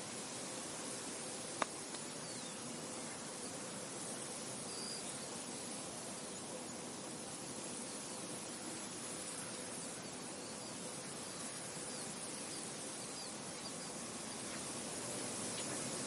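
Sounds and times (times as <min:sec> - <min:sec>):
insects buzzing: 0:00.0 - 0:16.0
wind hiss: 0:00.0 - 0:16.0.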